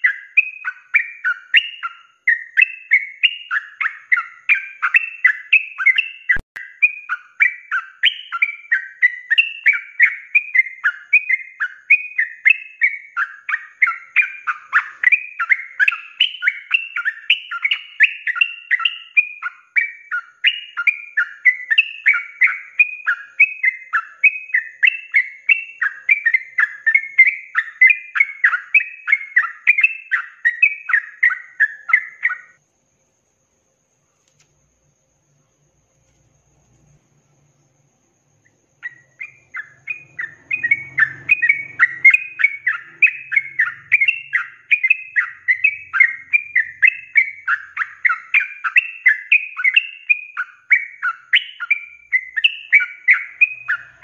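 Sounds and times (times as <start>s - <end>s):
bulbul singing: 0.0s - 33.2s, 33.9s - 54.0s.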